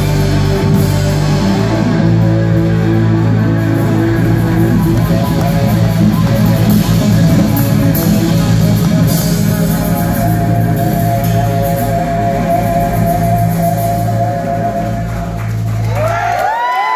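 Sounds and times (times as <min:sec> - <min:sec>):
electric bass guitar: 0:00.0 - 0:16.5
drum kit: 0:00.0 - 0:16.7
electric guitar sustained notes: 0:00.0 - 0:16.9.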